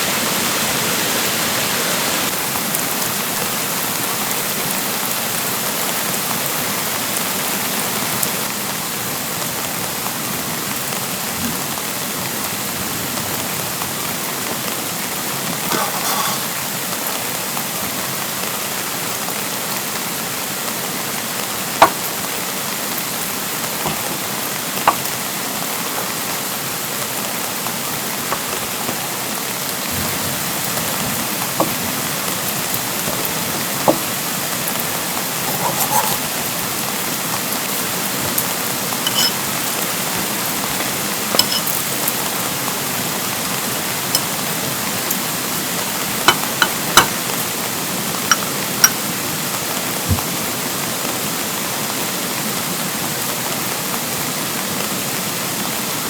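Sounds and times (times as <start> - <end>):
steady rain falling: 0.0 - 35.6, 36.2 - 56.0
rushing stream: 0.0 - 56.0.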